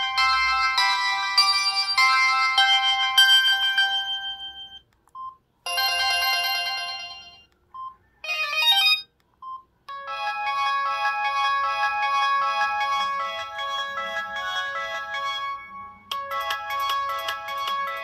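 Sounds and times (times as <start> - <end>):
phone ringtone melodies: 0.0 - 4.8, 5.7 - 7.5, 8.2 - 9.1, 9.9 - 18.0.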